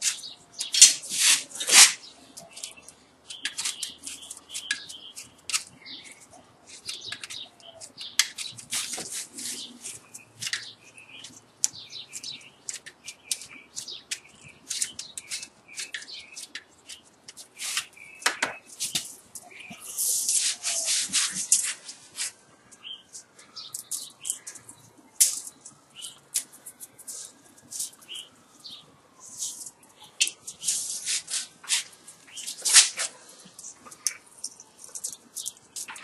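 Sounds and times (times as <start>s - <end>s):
copper wire scratching and ticking: 0.0s - 36.0s.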